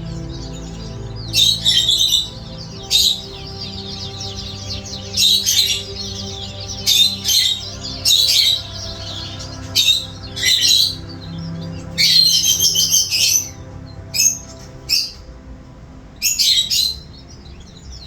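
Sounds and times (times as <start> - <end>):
low held background tones: 0.0 - 18.0
small birds chirping: 0.0 - 18.0.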